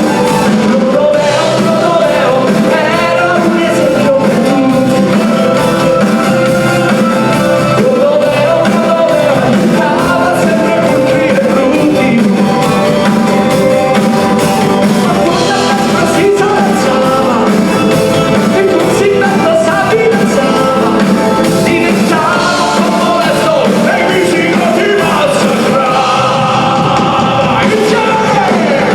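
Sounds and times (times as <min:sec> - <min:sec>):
live rock band playing: 0:00.0 - 0:28.9
person singing: 0:00.0 - 0:28.9.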